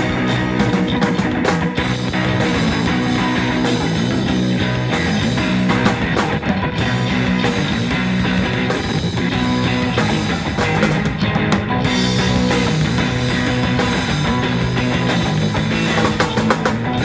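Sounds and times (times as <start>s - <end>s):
distorted electric guitar: 0.0s - 17.0s
live punk rock band: 0.0s - 17.0s.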